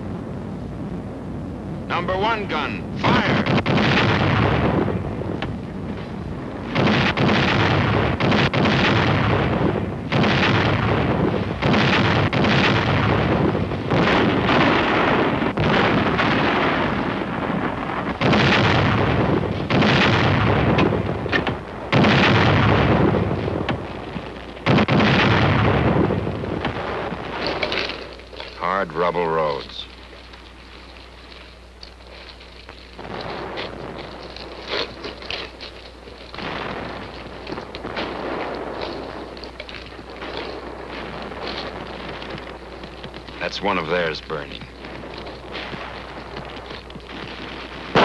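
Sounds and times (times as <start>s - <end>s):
artillery blasts: 0.0s - 48.0s.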